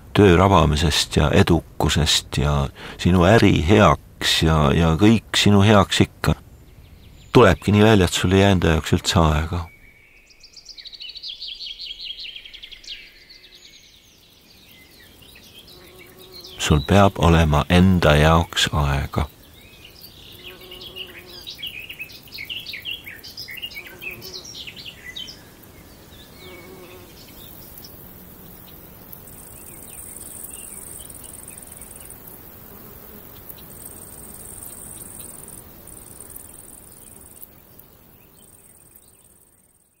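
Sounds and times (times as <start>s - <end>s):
insects buzzing: 0.0s - 40.0s.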